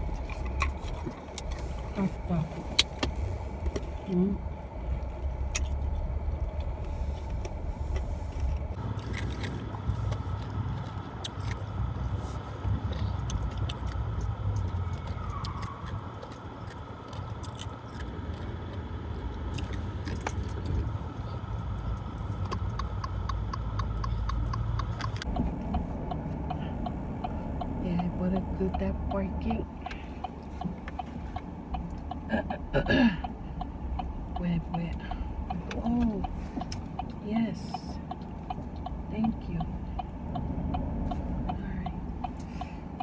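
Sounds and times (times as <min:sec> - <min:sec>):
car engine and road rumble: 0:00.0 - 0:43.0
turn signal ticking: 0:00.0 - 0:43.0.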